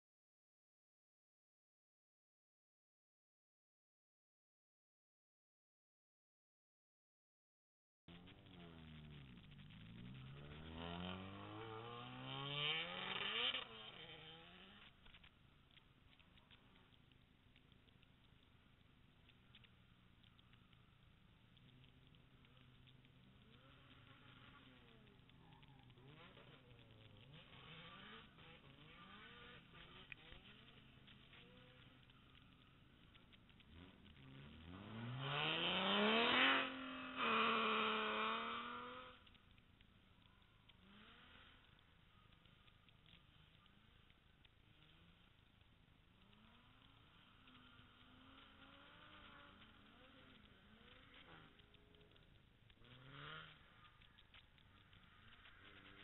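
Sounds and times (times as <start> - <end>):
distant car engines revving: 8.1 - 56.0.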